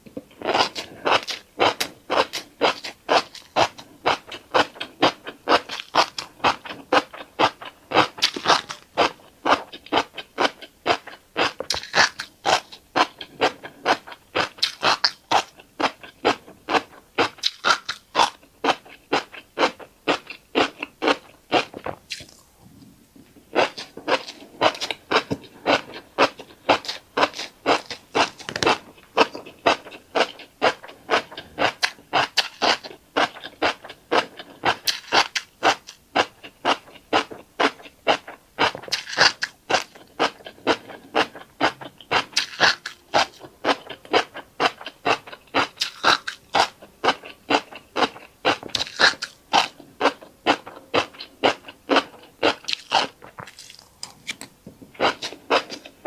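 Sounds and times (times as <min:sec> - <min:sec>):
crunchy chewing of seeds: 0:00.2 - 0:56.0.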